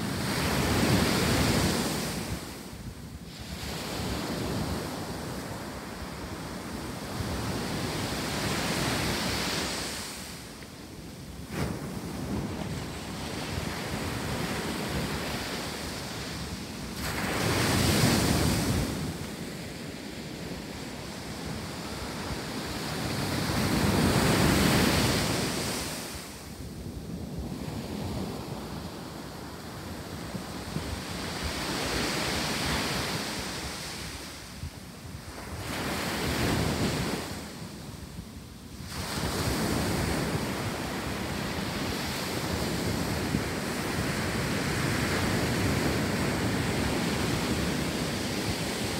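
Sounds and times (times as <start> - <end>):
ocean surf breaking on beach: 0.0 - 48.9
wind on microphone: 0.0 - 48.9.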